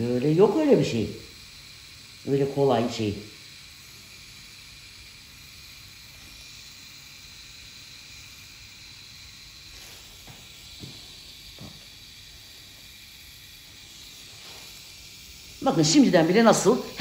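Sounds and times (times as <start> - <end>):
pen whirring and hissing: 0.2 - 17.0.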